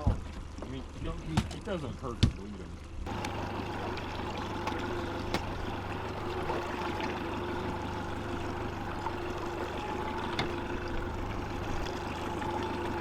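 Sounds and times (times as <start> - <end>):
boat motor running steadily: 0.0 - 13.0
water around hull: 0.0 - 13.0.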